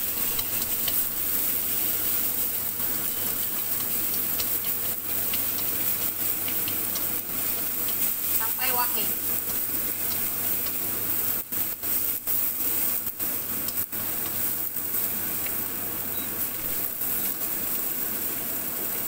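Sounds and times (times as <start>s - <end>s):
ginger sizzling in hot oil: 0.0s - 19.0s.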